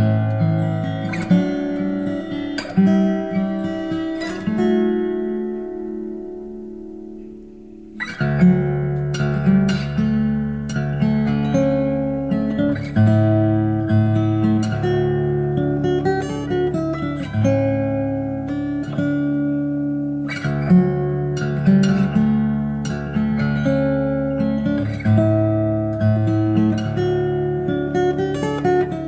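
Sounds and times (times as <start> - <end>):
acoustic guitar music: 0.0 - 29.0.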